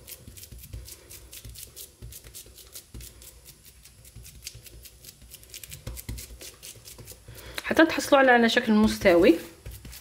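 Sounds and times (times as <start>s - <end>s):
hand patting and rubbing dough: 0.0s - 10.0s.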